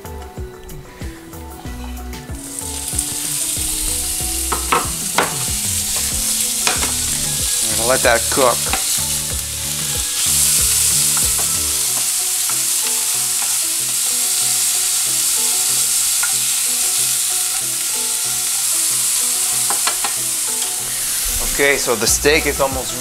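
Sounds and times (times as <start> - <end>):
meat sizzling in a frying pan: 0.4 - 23.0.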